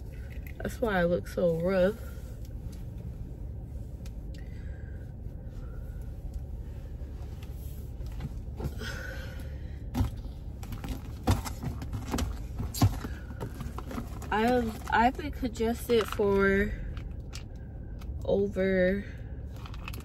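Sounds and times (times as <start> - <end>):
low rumble inside a car: 0.0 - 20.0.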